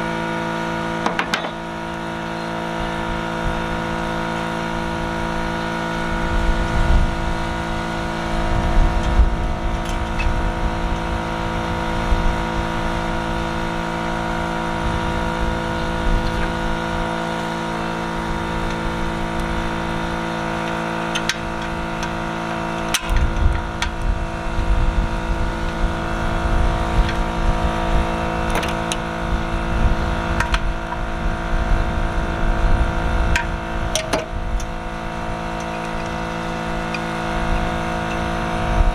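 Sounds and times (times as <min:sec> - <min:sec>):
engine running: 0:00.0 - 0:38.9
wind on microphone: 0:02.8 - 0:20.6, 0:21.3 - 0:38.9.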